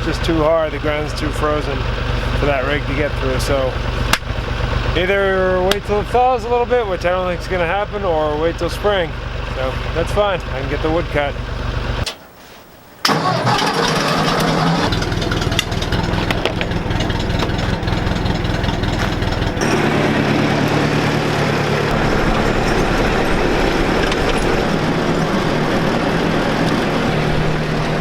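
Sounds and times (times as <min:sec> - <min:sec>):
tractor engine running: 0:00.0 - 0:12.2, 0:13.0 - 0:28.0.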